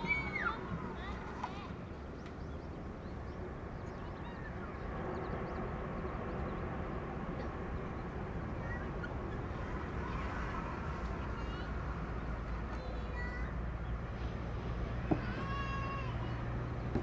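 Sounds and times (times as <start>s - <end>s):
birds calling: 0.0s - 17.0s
distant turboprop engines rumbling: 0.0s - 17.0s.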